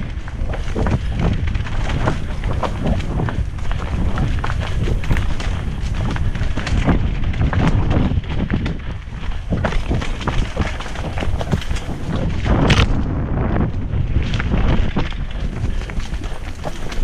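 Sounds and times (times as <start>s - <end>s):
bike rattling and knocking: 0.0s - 17.0s
wind rumbling on microphone: 0.0s - 17.0s.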